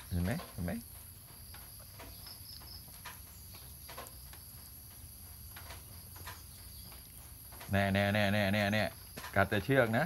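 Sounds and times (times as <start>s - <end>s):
puppy chewing string: 0.0s - 10.0s.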